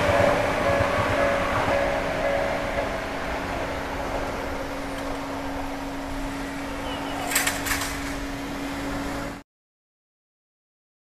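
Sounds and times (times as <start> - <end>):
low hum: 0.0 - 9.4
rail and street noise: 0.0 - 9.4.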